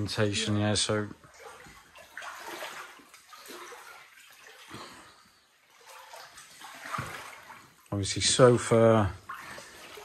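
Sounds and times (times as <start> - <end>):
water sloshing around legs: 0.0 - 10.0.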